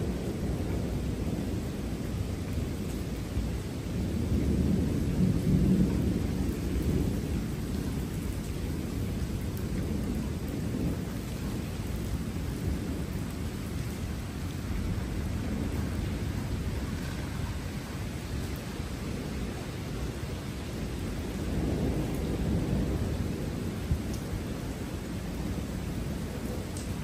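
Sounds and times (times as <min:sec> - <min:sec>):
thunder rumbling: 0:00.0 - 0:27.0.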